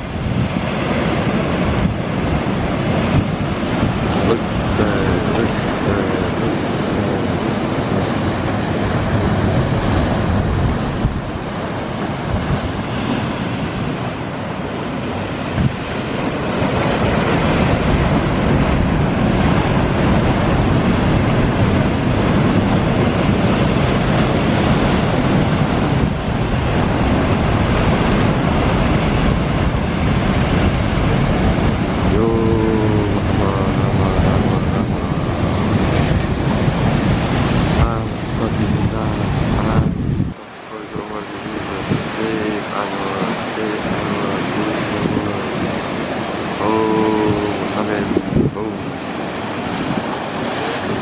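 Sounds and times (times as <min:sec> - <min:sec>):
waves crashing on rocks: 0:00.0 - 0:51.0.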